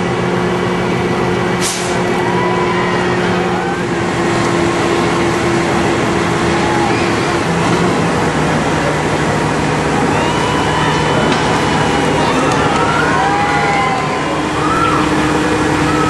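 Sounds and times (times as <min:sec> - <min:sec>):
crane engine droning: 0:00.0 - 0:16.0.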